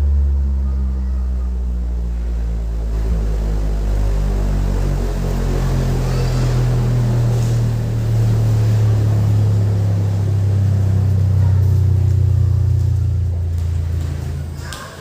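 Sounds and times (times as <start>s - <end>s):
bass-heavy remix music: 0.0s - 14.6s
deep bass tone: 0.0s - 14.7s.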